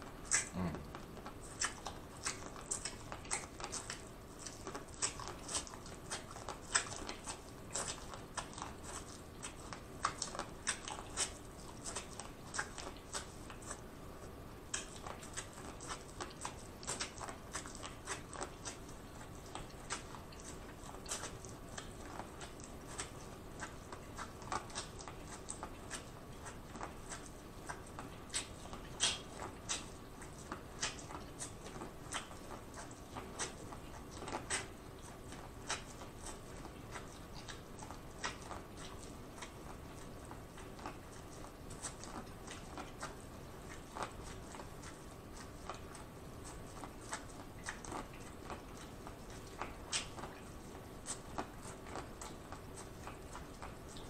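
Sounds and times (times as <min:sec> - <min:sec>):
crunchy chewing of corn: 0:00.0 - 0:54.0.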